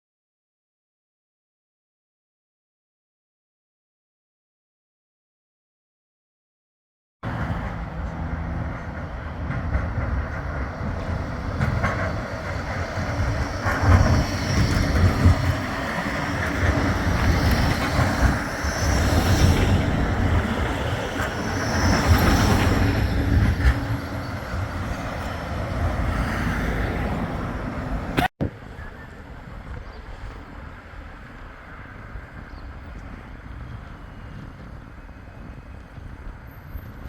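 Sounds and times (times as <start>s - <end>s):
tram rumbling along track: 7.2s - 37.0s
tram wheel squeals: 7.2s - 37.0s.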